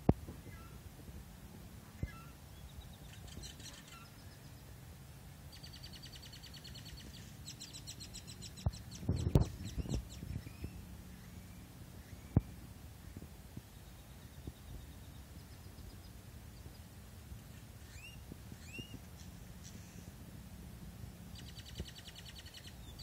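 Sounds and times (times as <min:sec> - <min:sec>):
birds chirping: 0:00.0 - 0:00.9, 0:01.6 - 0:04.8, 0:05.4 - 0:23.0
slow-moving car hum: 0:04.0 - 0:22.9.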